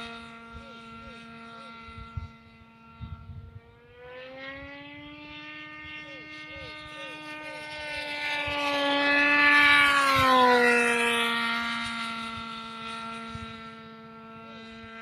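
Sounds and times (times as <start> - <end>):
model airplane engine flyby: 0.0 - 15.0.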